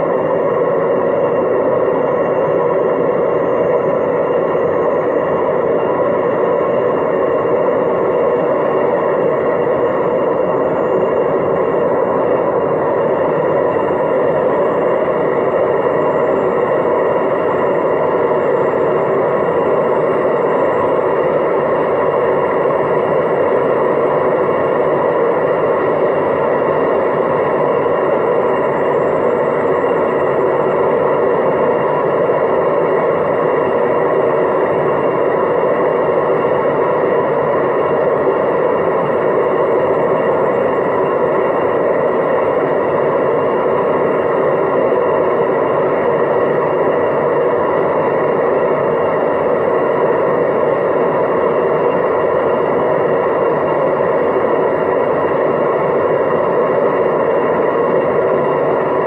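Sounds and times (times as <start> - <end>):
faint high motor whine: 0.0 - 59.0.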